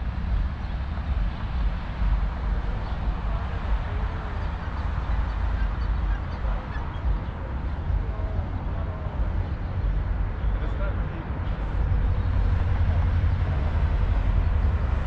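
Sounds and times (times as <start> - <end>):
choppy low rumble: 0.0 - 15.0.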